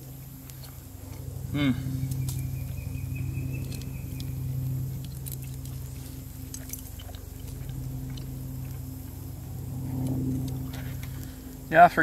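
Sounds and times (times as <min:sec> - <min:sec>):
low hum: 0:00.0 - 0:12.0
chewing: 0:00.1 - 0:11.7.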